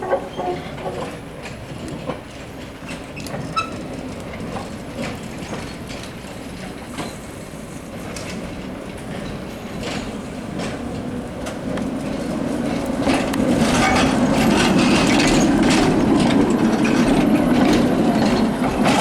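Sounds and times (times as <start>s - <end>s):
tram rumble: 0.0s - 19.0s
wheels clicking on rails: 0.0s - 19.0s.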